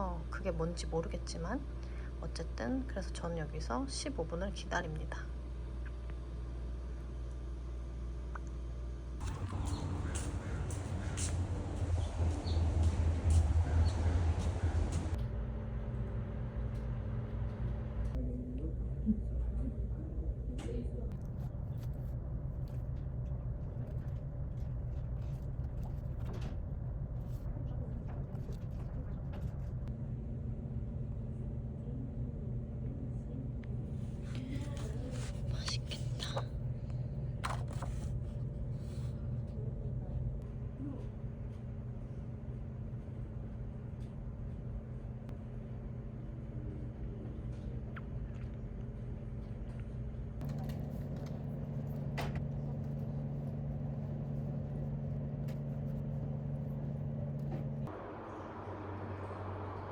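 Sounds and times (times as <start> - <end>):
faint wavering hum: 0.0 - 59.9
steady low rumble: 9.0 - 59.9.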